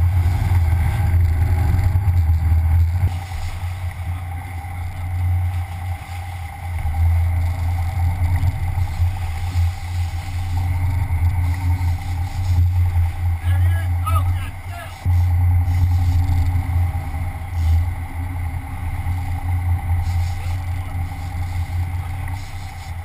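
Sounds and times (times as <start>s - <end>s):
boat engines droning: 0.0s - 23.0s
wind and water hiss: 0.0s - 23.0s.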